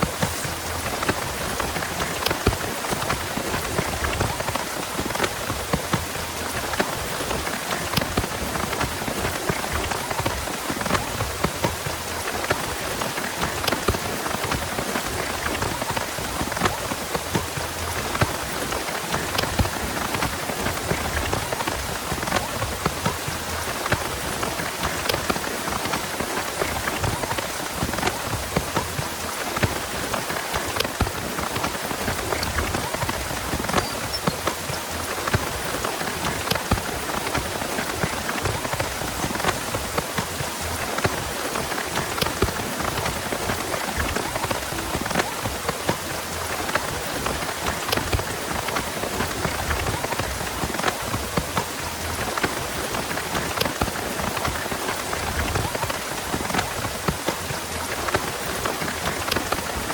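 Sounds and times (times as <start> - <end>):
heavy rain falling: 0.0 - 59.9
raindrops ticking on a surface: 0.0 - 59.9.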